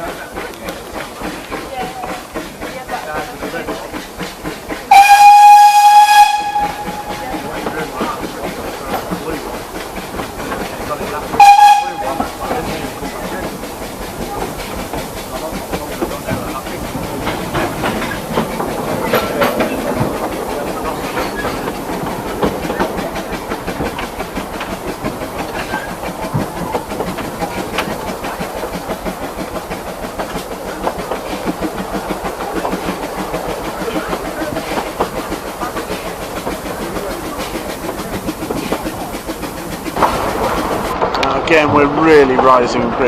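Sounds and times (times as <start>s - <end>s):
train coach rattle and rumble: 0.0s - 43.0s
wheels clicking on rails: 0.0s - 43.0s.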